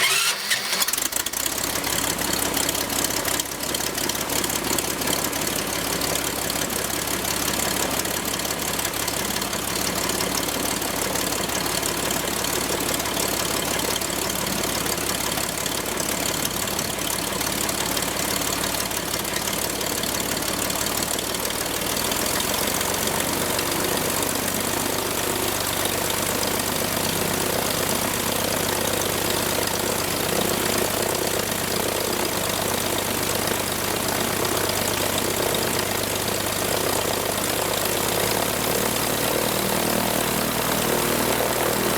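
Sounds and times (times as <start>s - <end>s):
aircraft engine running: 0.0s - 41.9s.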